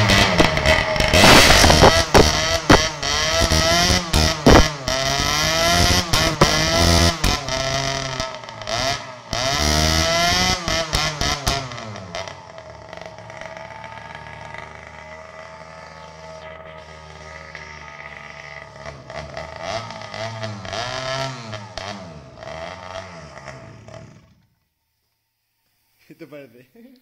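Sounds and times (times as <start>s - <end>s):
exhaust backfire pops: 0.0s - 24.5s
mini bike engine revving: 0.0s - 24.6s.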